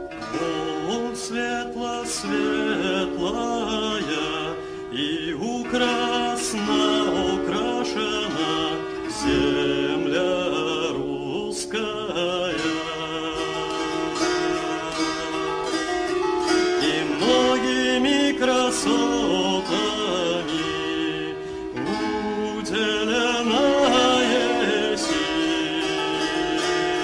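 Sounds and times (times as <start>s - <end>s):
person singing with vibrato: 0.0s - 27.0s
sustained chords: 0.0s - 27.0s.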